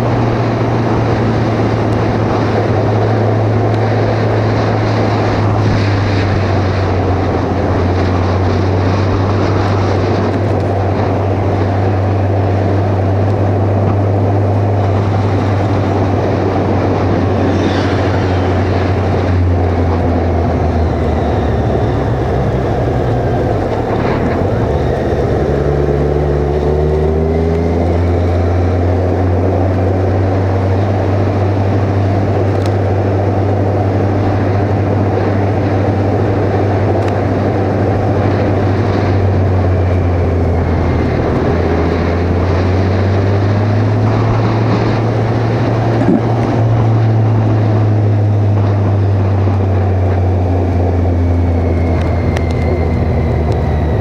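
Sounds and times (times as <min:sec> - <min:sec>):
motorcycle engine running: 0:00.0 - 0:54.0
steady low rumble: 0:00.0 - 0:54.0.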